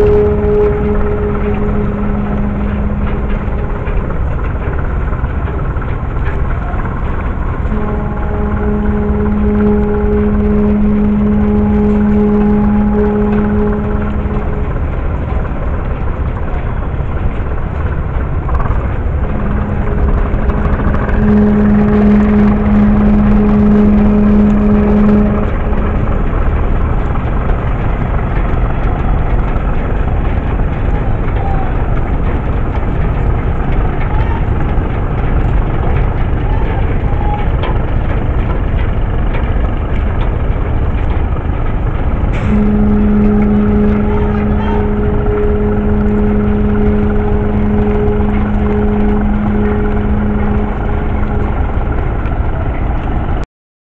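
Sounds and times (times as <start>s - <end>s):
boat engine low rumble: 0.0s - 53.4s
ship's horn blast: 0.0s - 53.4s.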